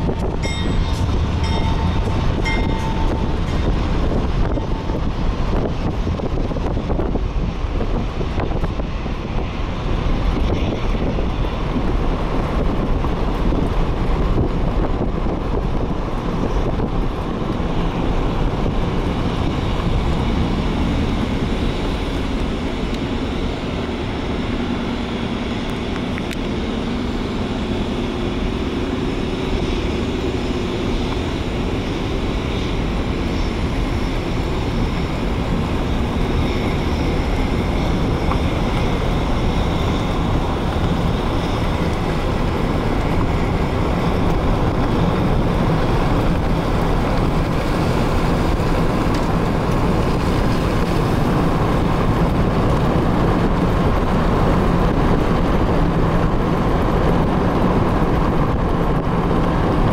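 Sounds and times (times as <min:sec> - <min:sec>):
tyre and wind noise: 0:00.0 - 0:59.9
wind buffeting microphone: 0:00.0 - 0:59.9.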